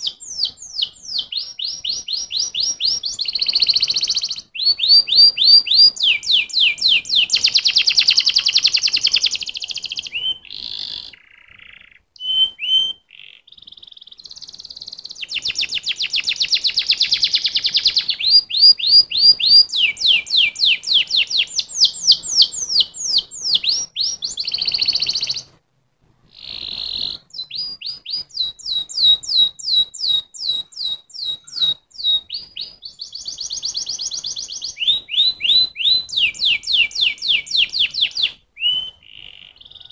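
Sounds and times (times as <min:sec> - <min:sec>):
canary singing trills: 0:00.0 - 0:25.6, 0:26.3 - 0:39.9.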